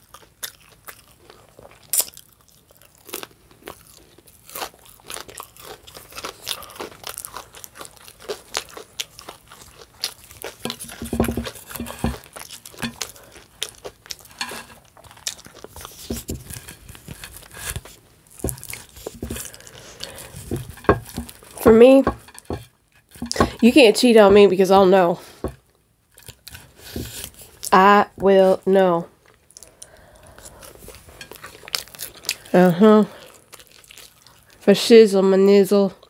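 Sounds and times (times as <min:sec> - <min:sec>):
person chewing and crunching: 0:00.0 - 0:28.5, 0:29.1 - 0:34.7.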